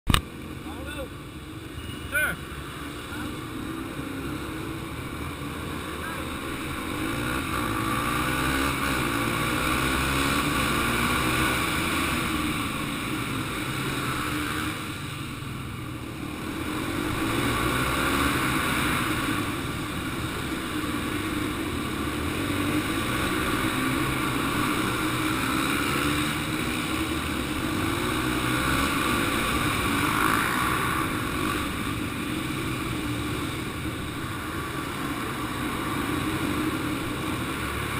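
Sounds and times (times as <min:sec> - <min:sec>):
dirt bike engine revving: 0:02.1 - 0:15.5, 0:16.1 - 0:37.9.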